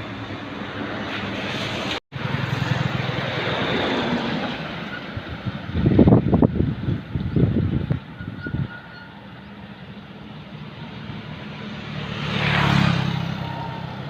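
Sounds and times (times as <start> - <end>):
heavy truck engine running: 0.0 - 12.0
road and wind noise: 0.0 - 14.0.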